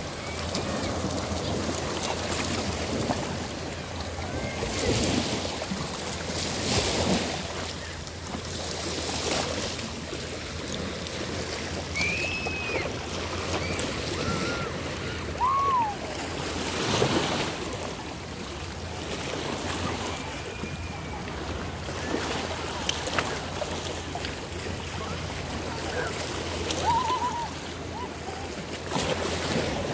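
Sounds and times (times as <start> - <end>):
waves lapping at shore: 0.0 - 29.9.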